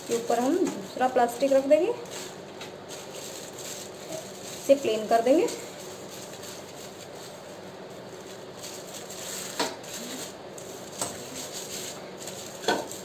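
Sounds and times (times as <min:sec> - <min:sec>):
plastic sheets crinkling: 0:00.0 - 0:13.0
sharp plastic crackles: 0:00.0 - 0:13.0.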